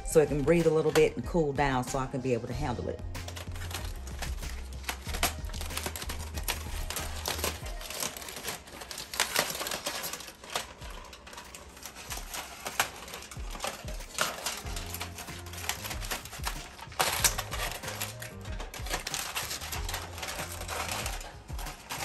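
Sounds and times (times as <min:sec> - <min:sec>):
aluminium foil crinkling: 0:00.0 - 0:22.0.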